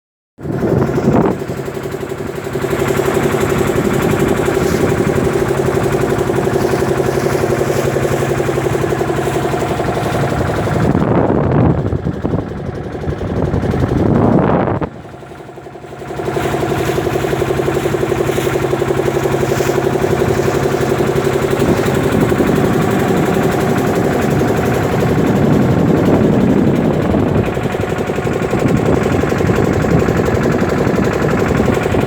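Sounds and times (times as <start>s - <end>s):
engine running steadily: 0.4s - 32.0s.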